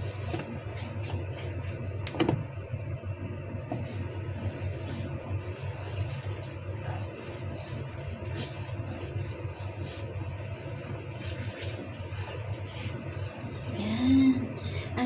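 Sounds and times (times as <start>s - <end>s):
whisk scraping metal bowl: 0.0s - 2.0s, 3.8s - 14.0s
steady low hum: 0.0s - 15.0s.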